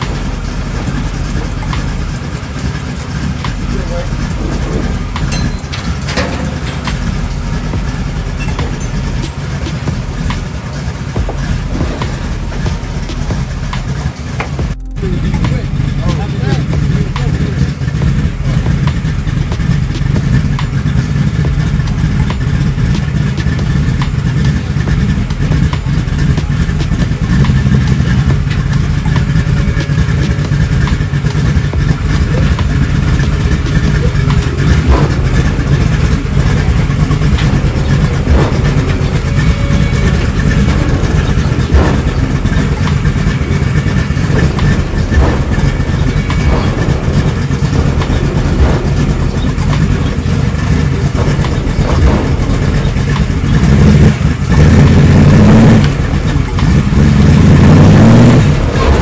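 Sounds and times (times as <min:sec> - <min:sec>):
car engine running at low revs: 0:00.0 - 0:59.0.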